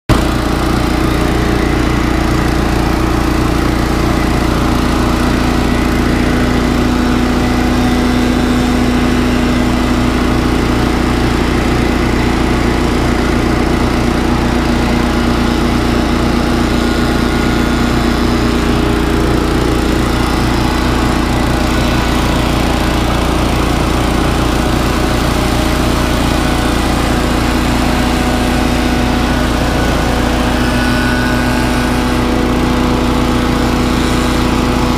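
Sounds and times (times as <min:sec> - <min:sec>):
backpack leaf blowers running: 0:00.1 - 0:34.9
push leaf blower engine: 0:00.1 - 0:34.9.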